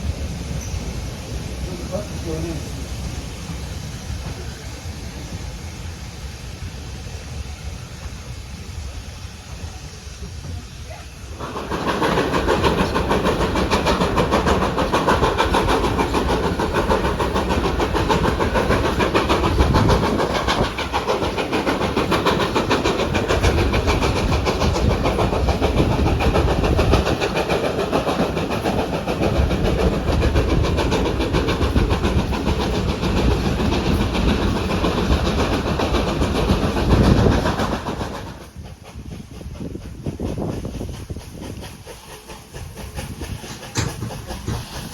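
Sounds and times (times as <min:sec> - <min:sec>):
train wheels clattering over rails: 0:00.0 - 0:44.9.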